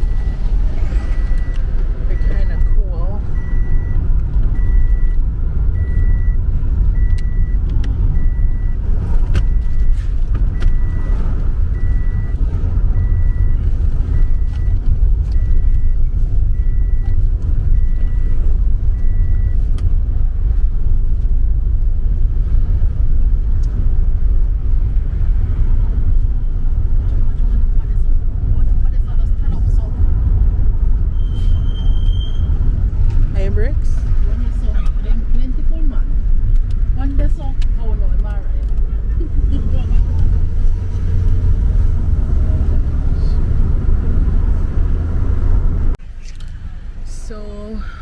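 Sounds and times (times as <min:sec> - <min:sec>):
car driving rumble from inside: 0:00.0 - 0:48.0.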